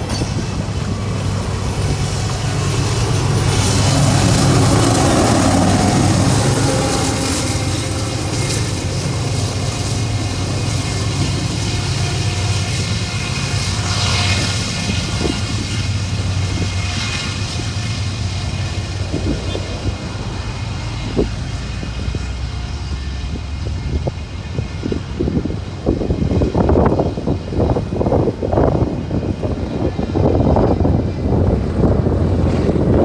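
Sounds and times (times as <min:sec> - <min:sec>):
diesel train drone: 0:00.0 - 0:33.0.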